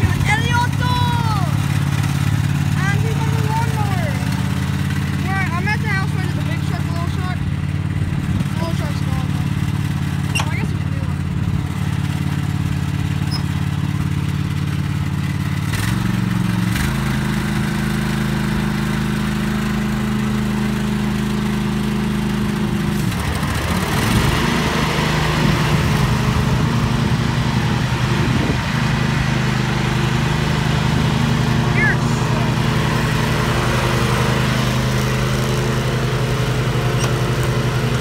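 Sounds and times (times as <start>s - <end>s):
riding lawn mower engine running: 0.0s - 38.0s.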